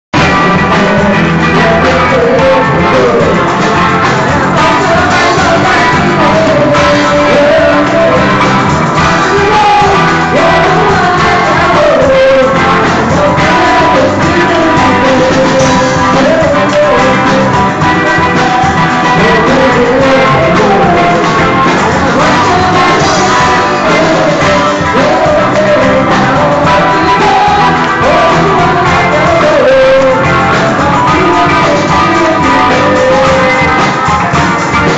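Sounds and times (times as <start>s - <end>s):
rock band playing: 0.1s - 34.9s
lead singer singing: 0.2s - 34.9s.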